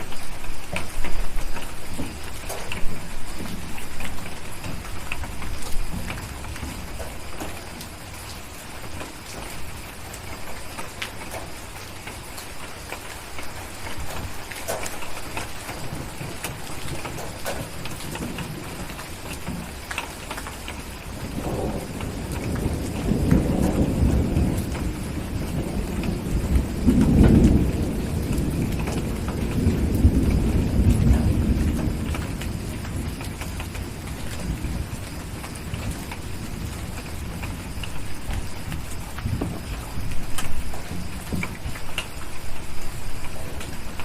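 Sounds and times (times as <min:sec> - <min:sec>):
thunder rumbling: 0:00.0 - 0:12.6, 0:13.2 - 0:44.0
steady rain: 0:00.0 - 0:44.0.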